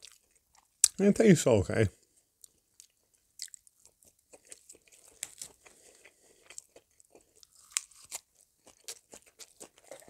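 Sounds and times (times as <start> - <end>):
person chewing food: 0.0 - 1.0, 2.2 - 10.0.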